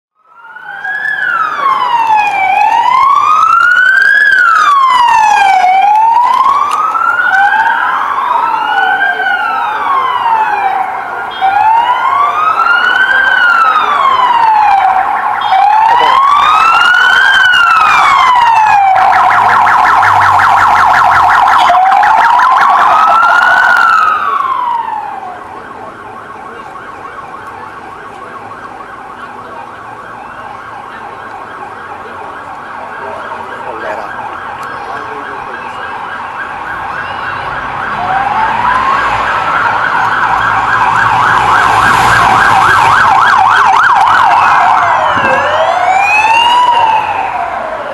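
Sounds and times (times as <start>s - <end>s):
police sirens wailing and yelping: 0.2s - 47.9s.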